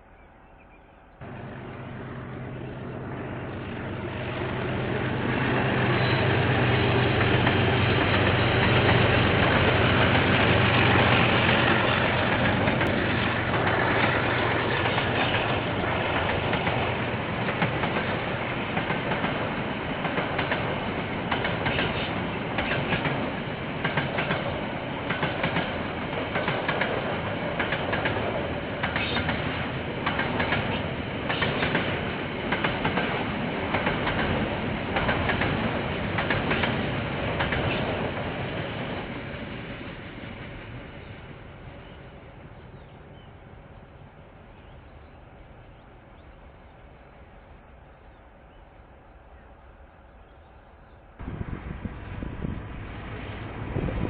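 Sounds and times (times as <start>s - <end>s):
diesel locomotive engine hum: 0.0s - 54.0s.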